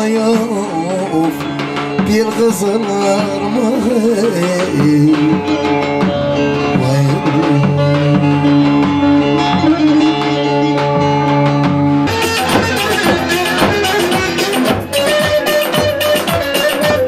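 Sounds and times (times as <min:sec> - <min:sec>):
folk music on lute and hand drum: 0:00.0 - 0:17.0.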